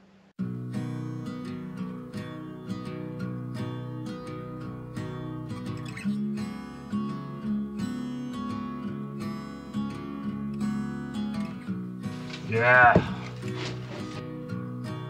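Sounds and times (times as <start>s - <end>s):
acoustic guitar strumming chords: 0.4s - 15.0s.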